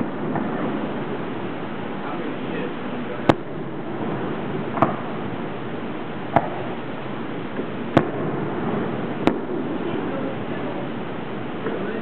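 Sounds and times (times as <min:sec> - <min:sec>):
fireworks bangs: 0:00.0 - 0:12.0
steady background noise: 0:00.0 - 0:12.0.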